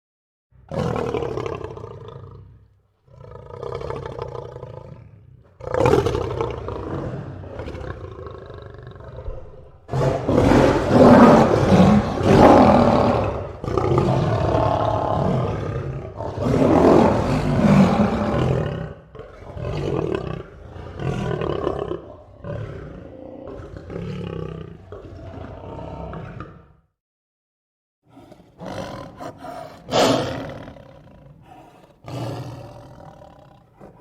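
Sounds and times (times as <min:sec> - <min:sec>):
lion roaring: 0:00.7 - 0:26.8, 0:28.1 - 0:34.0
lion grunting: 0:03.1 - 0:26.7, 0:28.1 - 0:34.0.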